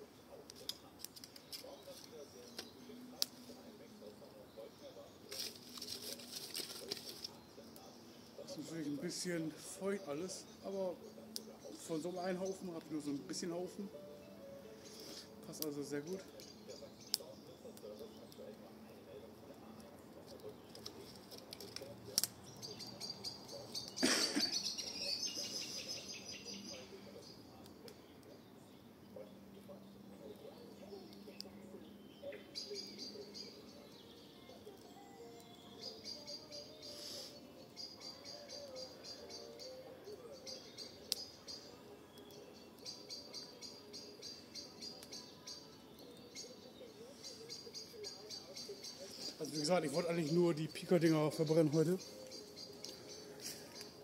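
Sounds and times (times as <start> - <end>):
fire hissing: 0.0 - 54.0
wood fire crackling: 0.0 - 54.0.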